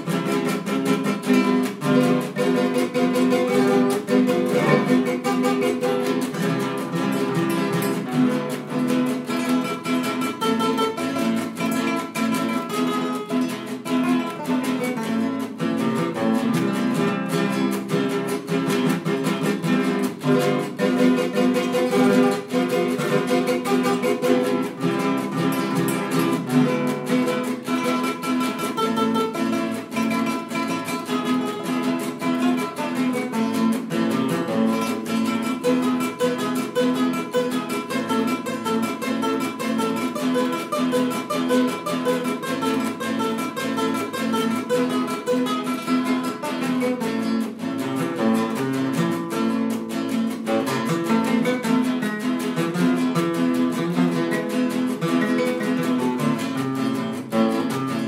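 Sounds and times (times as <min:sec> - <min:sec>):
guitar: 0:00.0 - 0:58.0
tiple picked and strummed: 0:00.0 - 0:58.0.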